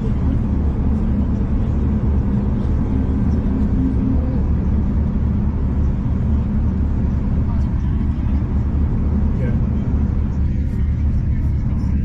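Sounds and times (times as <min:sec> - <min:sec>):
train rumble from inside carriage: 0:00.0 - 0:12.0.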